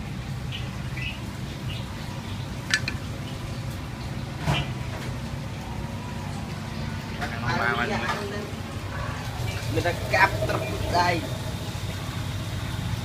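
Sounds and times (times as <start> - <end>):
steady low background hum: 0.0 - 13.0.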